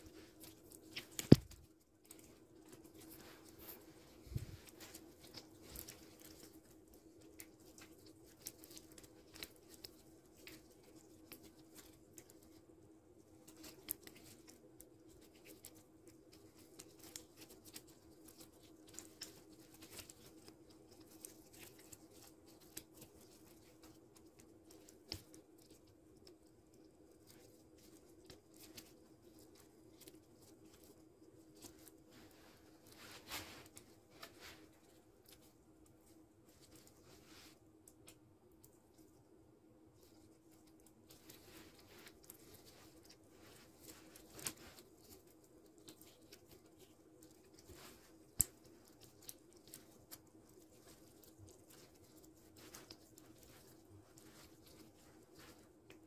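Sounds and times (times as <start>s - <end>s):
rustling of twigs and leaves: 0.0s - 39.3s, 39.9s - 56.0s
faint steady hum: 0.0s - 56.0s.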